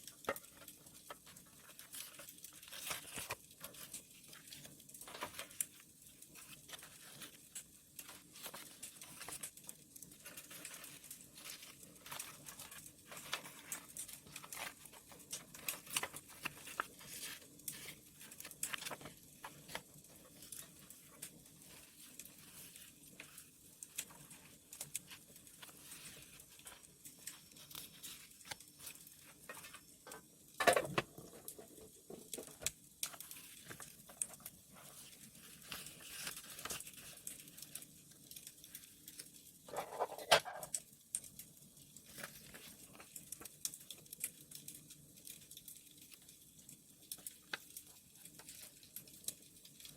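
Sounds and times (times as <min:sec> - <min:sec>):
paper crinkling and tearing: 0:00.0 - 0:40.8, 0:42.0 - 0:44.3
wood fire crackling: 0:00.0 - 0:49.9.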